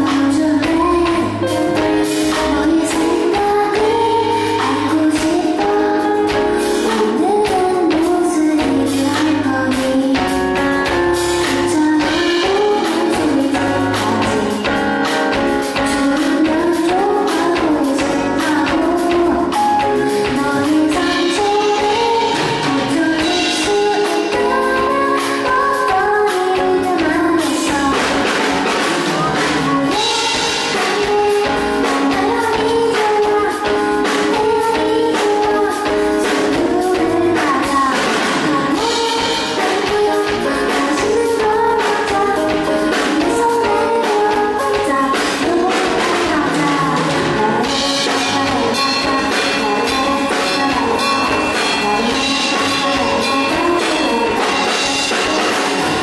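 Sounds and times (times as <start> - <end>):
keyboard playing: 0.0 - 56.0
woman singing into a microphone: 0.0 - 56.0.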